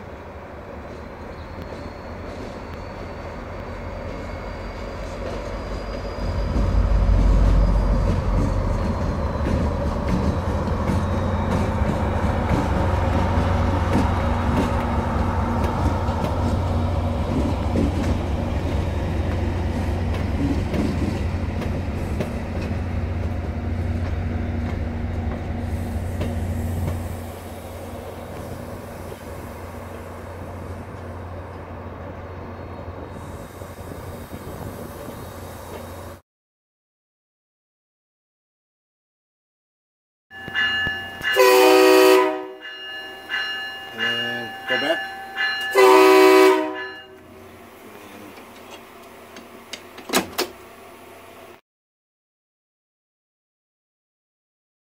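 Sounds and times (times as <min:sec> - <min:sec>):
train rumbling past: 0:00.0 - 0:36.2, 0:40.3 - 0:51.6.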